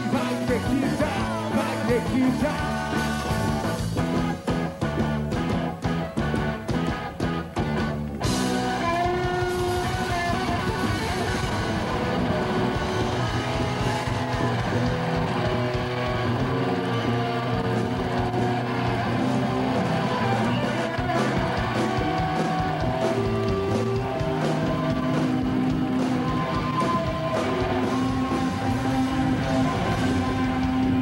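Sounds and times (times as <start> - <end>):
distorted electric guitars: 0.0 - 31.0
drums and cymbals: 0.0 - 31.0.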